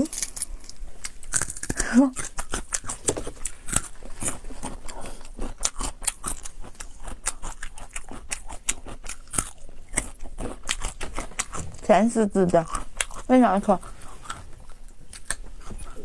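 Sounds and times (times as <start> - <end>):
crunchy chewing of corn: 0.0 - 16.0.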